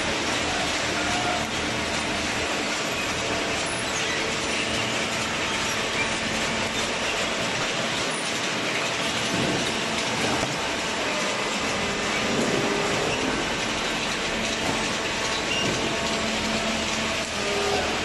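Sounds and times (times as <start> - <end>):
chain conveyor clattering: 0.0 - 18.0.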